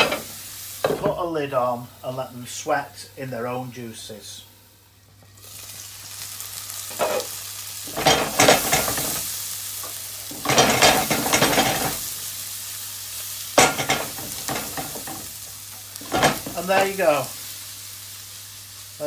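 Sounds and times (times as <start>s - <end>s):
onions frying in a pan: 0.0s - 19.0s.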